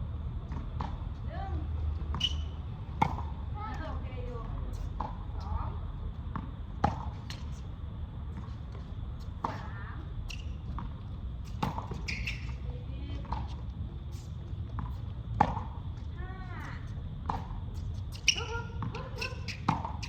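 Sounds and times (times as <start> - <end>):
steady low rumble: 0.0 - 12.0, 12.6 - 19.2.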